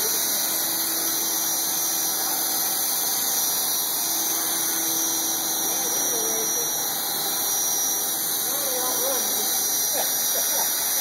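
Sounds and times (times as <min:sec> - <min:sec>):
model helicopter hovering: 0:00.0 - 0:11.0.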